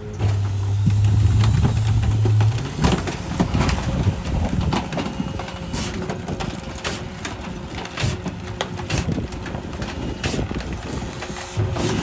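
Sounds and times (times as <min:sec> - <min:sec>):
garbage truck engine running: 0:00.0 - 0:12.0
knocks and clatters of trash: 0:00.0 - 0:12.0
loud steady hum: 0:00.0 - 0:12.0.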